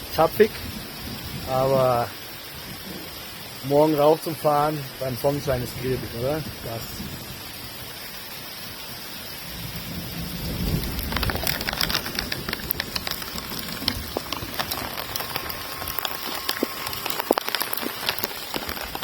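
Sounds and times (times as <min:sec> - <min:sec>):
rain and hail hitting a surface: 0:00.0 - 0:19.0.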